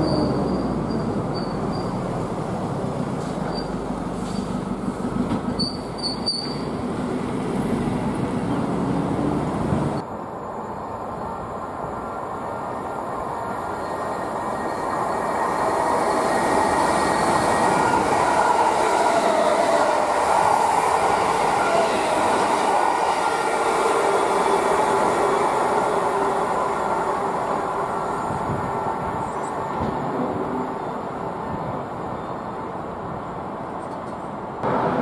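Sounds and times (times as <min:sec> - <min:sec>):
train wheels on rails: 0:00.0 - 0:10.0, 0:11.8 - 0:31.9.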